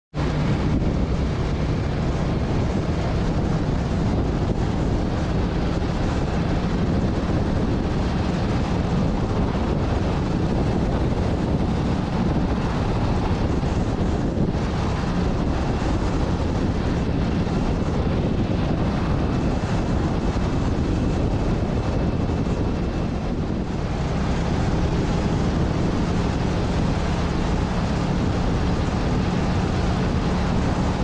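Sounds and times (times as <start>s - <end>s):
wind rushing over microphone: 0.1s - 31.0s
faint motorcycle engine hum: 0.2s - 31.0s.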